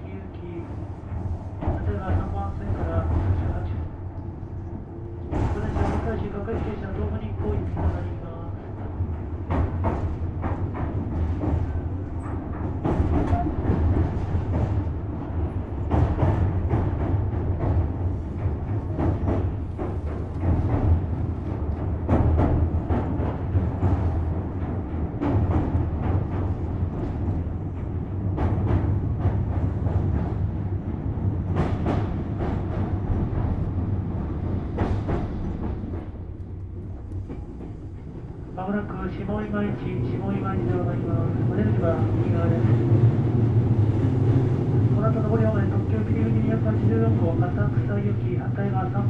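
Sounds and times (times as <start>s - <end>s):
train running gear rumble: 0.0s - 49.0s.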